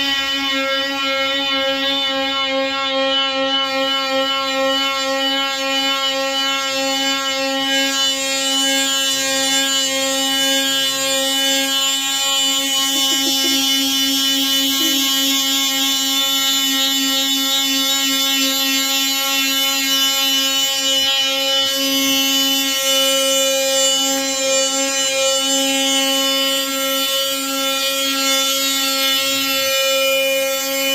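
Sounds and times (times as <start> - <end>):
power tool high-pitched hum: 0.0 - 30.9.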